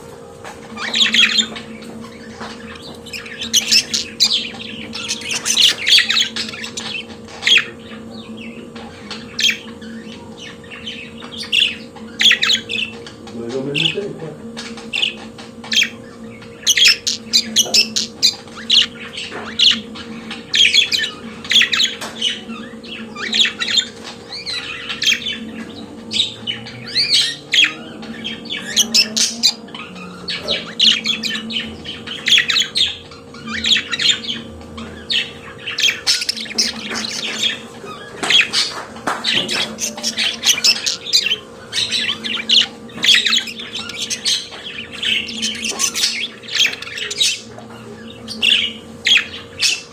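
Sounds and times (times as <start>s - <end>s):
faint low hum: 0.0s - 49.9s
budgerigar chirping and squawking: 0.4s - 49.9s.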